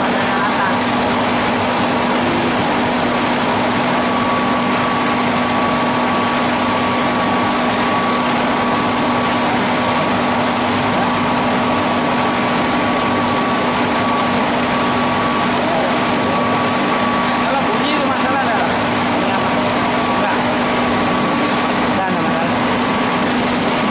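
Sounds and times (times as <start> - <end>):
veneer lathe hum and whine: 0.0 - 23.9.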